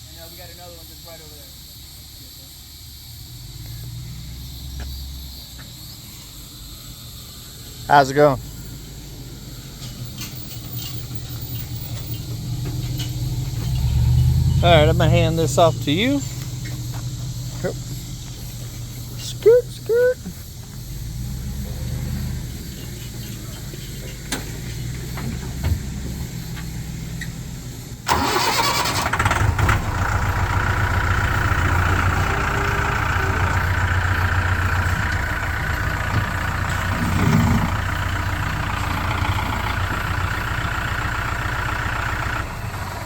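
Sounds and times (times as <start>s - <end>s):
tractor engine running: 3.2s - 43.0s.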